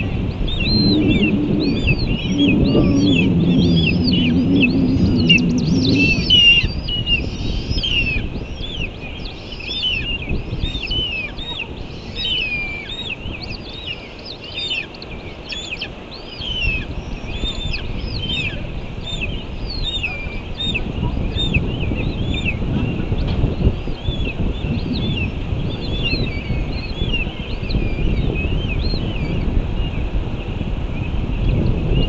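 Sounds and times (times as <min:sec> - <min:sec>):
bird chirping: 0:00.0 - 0:29.4
low wind rumble: 0:00.0 - 0:32.0.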